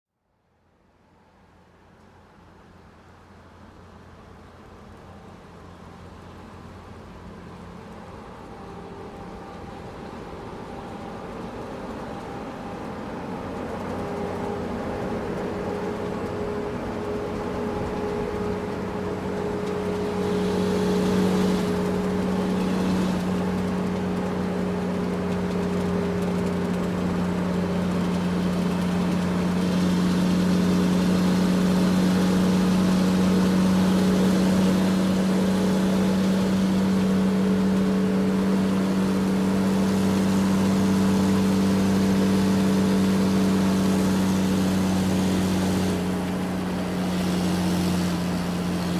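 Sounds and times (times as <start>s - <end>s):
road hiss: 2.0s - 48.9s
truck engine humming: 2.0s - 48.9s.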